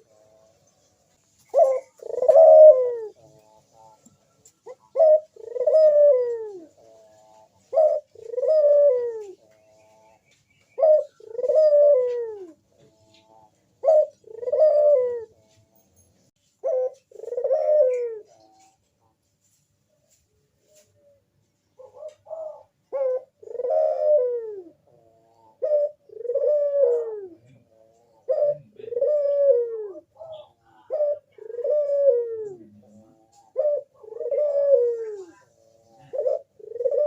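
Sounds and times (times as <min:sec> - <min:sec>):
dove cooing: 0:00.0 - 0:15.9, 0:16.5 - 0:18.9, 0:20.6 - 0:37.0.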